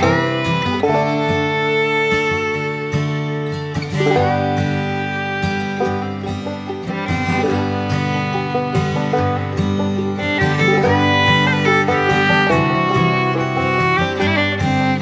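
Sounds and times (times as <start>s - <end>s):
bluegrass acoustic guitar tune: 0.0s - 15.0s.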